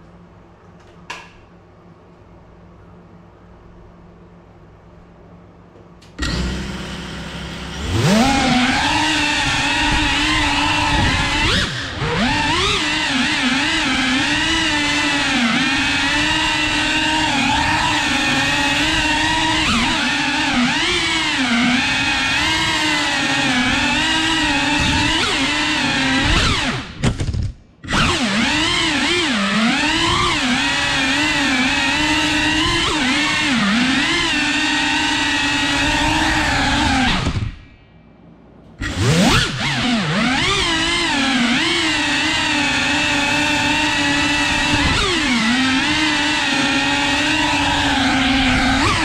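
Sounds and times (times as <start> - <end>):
drone motors whining: 6.0 - 37.7, 38.7 - 49.0.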